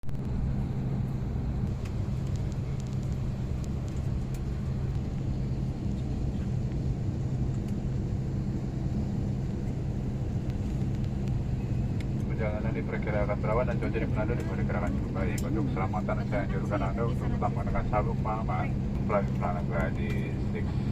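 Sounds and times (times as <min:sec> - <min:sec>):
airliner cabin drone: 0:00.0 - 0:20.9.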